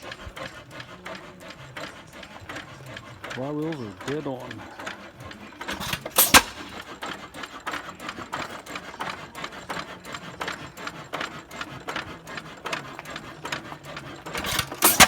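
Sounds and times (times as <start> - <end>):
engine clicking and clatter: 0.0 - 15.0.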